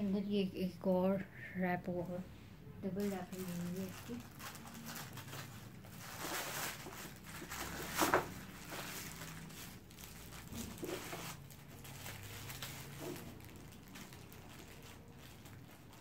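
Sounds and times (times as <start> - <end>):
plastic bag crinkling: 2.9 - 16.0.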